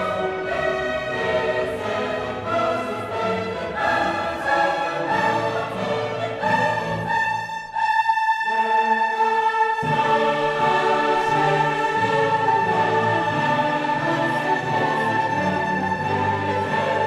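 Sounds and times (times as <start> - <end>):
choir holding a chord: 0.0 - 17.0
orchestral music: 0.0 - 17.0.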